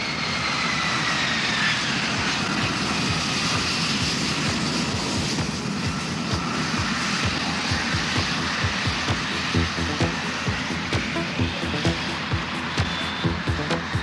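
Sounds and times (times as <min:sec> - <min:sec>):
jet engines roaring and whining: 0:00.0 - 0:14.0.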